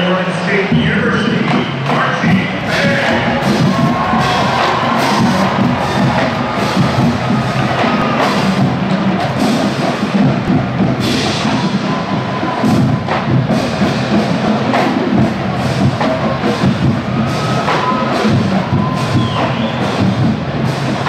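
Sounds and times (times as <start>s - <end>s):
drums and percussion: 0.0s - 21.0s
marching band playing: 0.0s - 21.0s.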